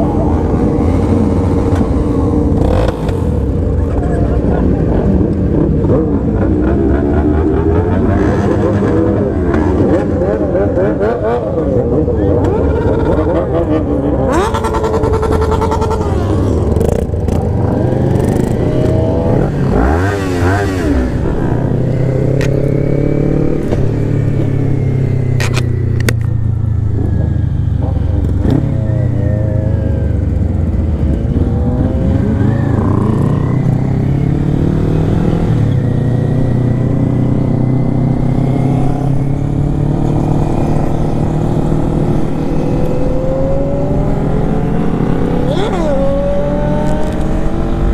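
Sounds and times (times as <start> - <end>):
other motorcycles revving: 0.0 - 47.9.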